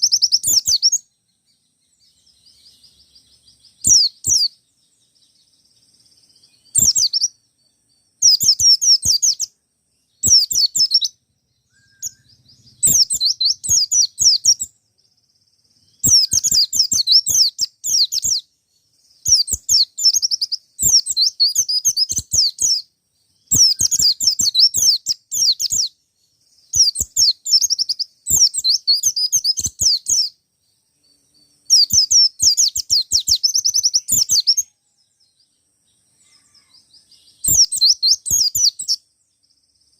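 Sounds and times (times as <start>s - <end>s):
bird twittering: 0.0s - 7.4s, 8.2s - 30.4s, 31.7s - 34.8s, 36.2s - 39.0s.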